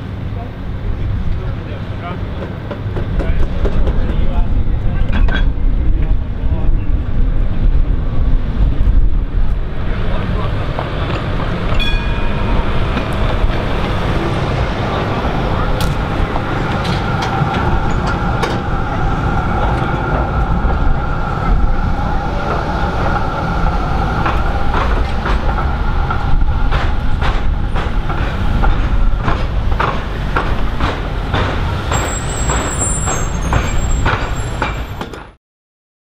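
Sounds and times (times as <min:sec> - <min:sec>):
tram wheels clacking over rails: 0:01.3 - 0:35.4.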